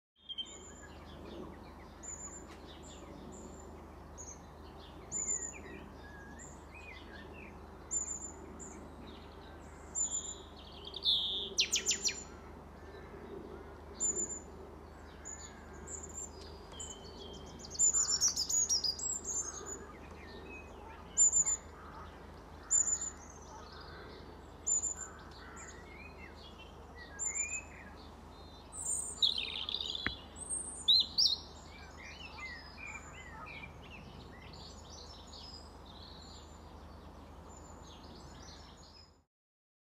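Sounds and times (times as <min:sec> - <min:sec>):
birds singing and chirping: 0:00.2 - 0:39.2.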